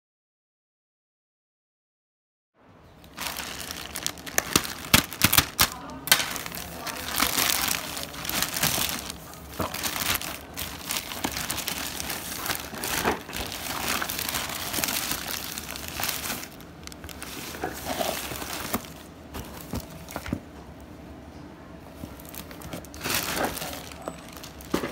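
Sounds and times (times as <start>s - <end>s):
plastic packaging crinkling: 3.0s - 20.4s, 22.0s - 24.9s
boxes shifting: 3.1s - 20.6s, 22.0s - 24.9s.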